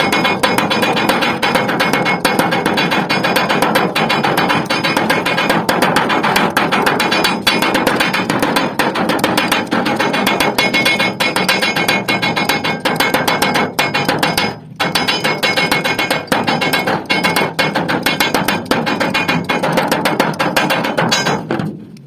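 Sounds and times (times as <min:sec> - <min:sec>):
hammer beating sheet metal: 0:00.0 - 0:21.8.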